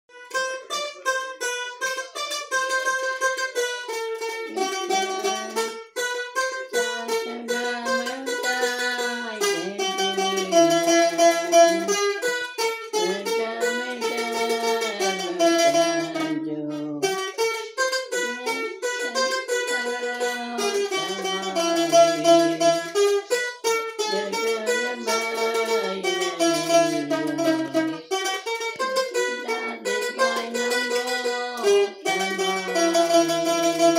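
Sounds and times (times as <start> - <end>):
plucked string instrument melody: 0.1 - 33.9.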